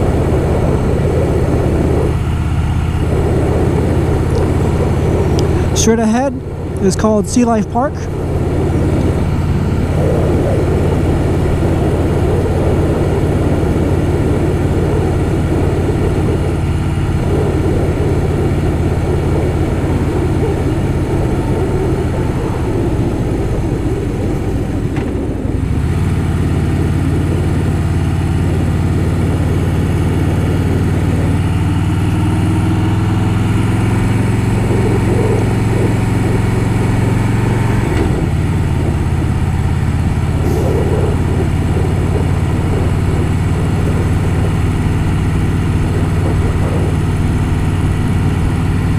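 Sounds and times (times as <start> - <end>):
motorcycle engine running: 0.0 - 48.9
rushing wind noise: 0.0 - 48.9.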